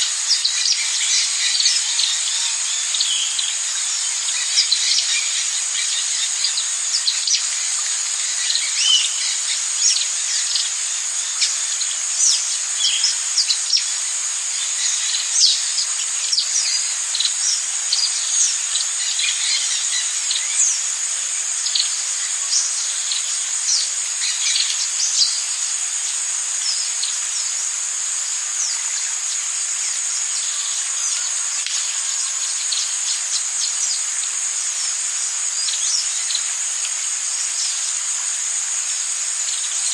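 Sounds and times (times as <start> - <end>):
high-pitched insect drone: 0.0 - 39.9.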